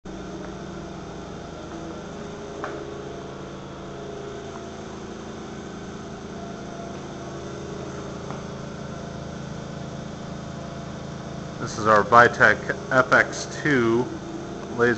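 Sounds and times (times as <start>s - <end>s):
laser cutter hum: 0.1s - 14.9s.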